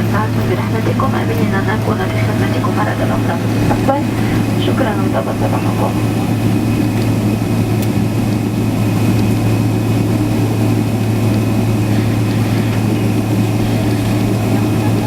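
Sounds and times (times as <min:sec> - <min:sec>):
air-conditioning hiss: 0:00.0 - 0:15.0
jet engines idling: 0:00.0 - 0:15.0.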